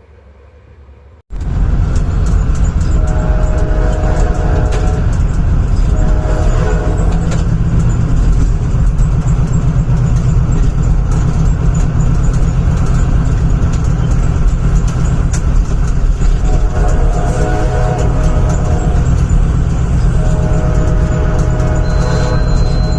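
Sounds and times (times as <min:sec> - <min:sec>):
moving train rumble: 0:00.0 - 0:22.9.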